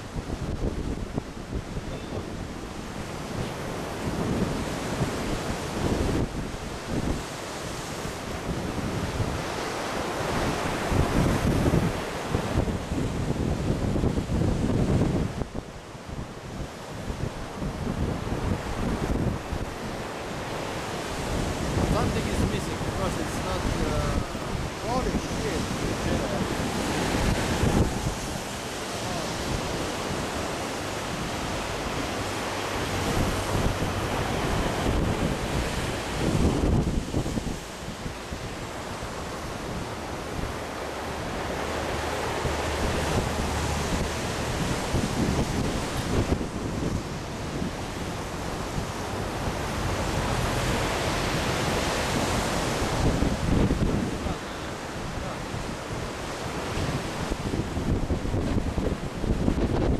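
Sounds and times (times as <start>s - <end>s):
sea surf breaking: 0.0s - 59.9s
wind buffeting microphone: 0.0s - 59.9s.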